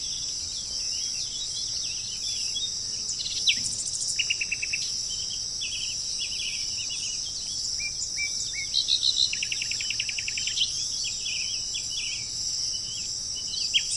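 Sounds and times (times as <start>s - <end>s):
insects buzzing: 0.0s - 13.9s
small birds chirping and whistling: 0.0s - 13.9s.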